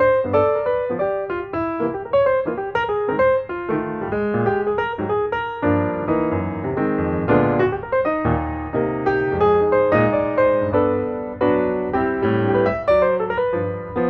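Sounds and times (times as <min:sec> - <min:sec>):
piano playing quick run: 0:00.0 - 0:14.0.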